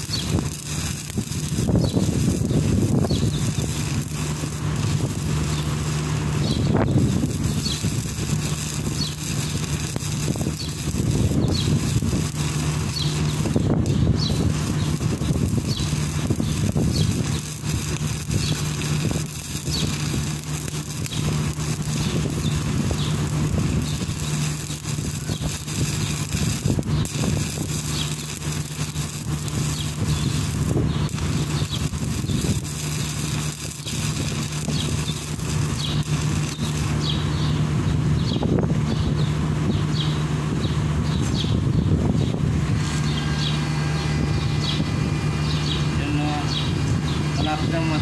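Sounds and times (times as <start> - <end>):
welding arc crackling: 0.0 - 39.7
low machine hum: 0.0 - 48.0.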